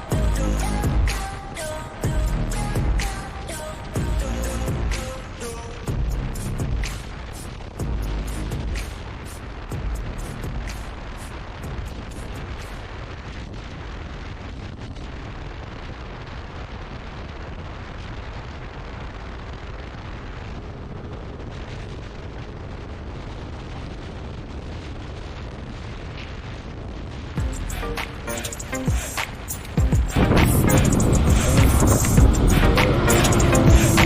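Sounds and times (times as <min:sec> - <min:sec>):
wind roar on microphone: 0:00.0 - 0:27.6, 0:29.0 - 0:34.0.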